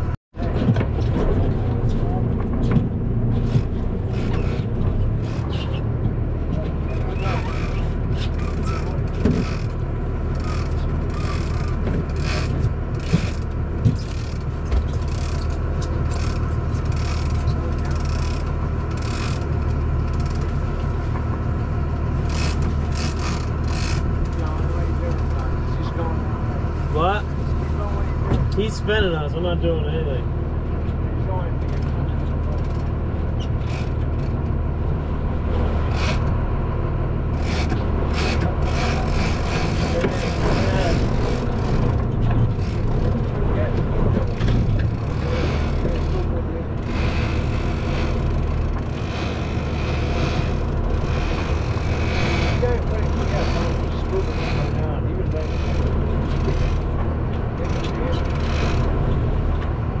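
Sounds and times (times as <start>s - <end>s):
boat engine hum: 0.0s - 60.0s.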